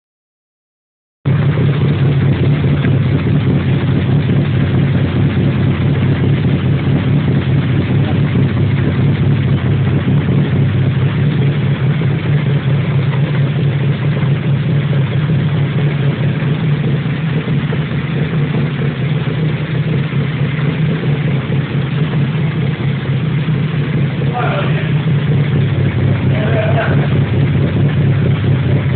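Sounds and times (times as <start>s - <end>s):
car exhaust rumbling: 1.3s - 28.9s.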